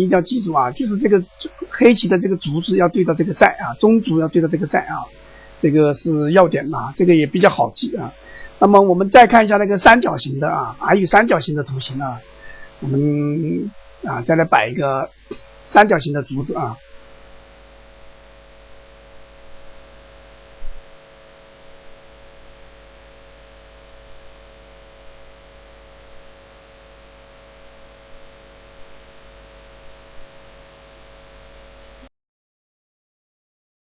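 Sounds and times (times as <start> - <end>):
electrical hum and hiss: 0.0 - 32.1.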